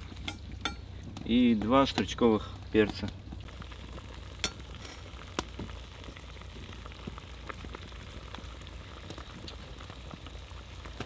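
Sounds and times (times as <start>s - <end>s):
food sizzling and bubbling: 0.0s - 11.0s.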